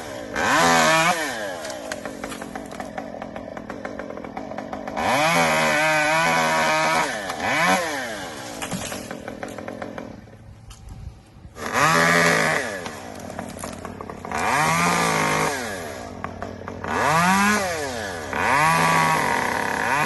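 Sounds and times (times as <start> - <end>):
chainsaw revving: 0.0 - 10.7, 11.5 - 20.0.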